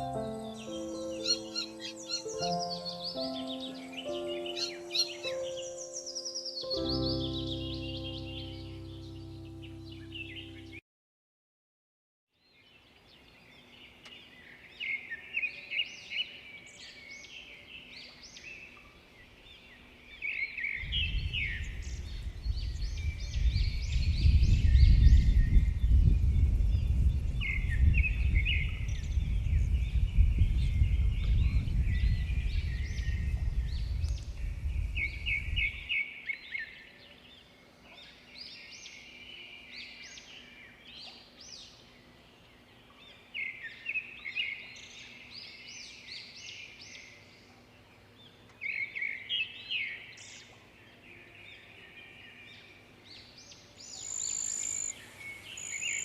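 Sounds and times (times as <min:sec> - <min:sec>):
birds chirping and trilling: 0:00.0 - 0:10.8, 0:12.4 - 0:56.0.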